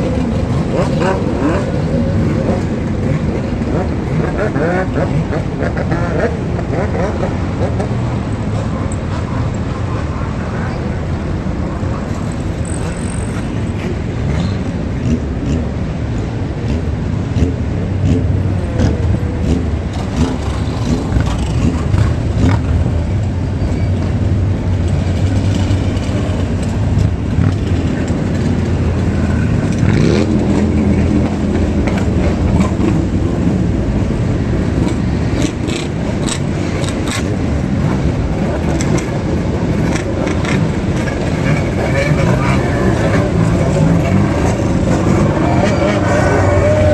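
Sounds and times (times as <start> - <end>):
cars driving by revving: 0.0 - 46.9.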